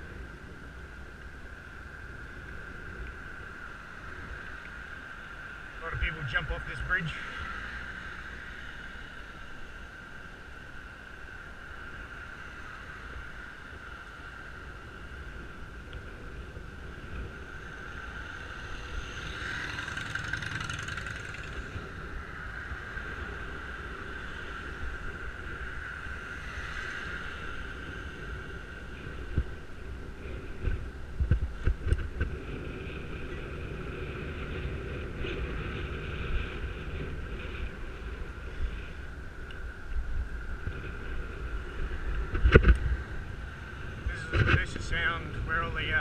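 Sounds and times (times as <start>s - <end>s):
passing vehicles: 0.0s - 46.0s
steady high whine: 0.0s - 46.0s
wind and road rumble: 0.0s - 46.0s.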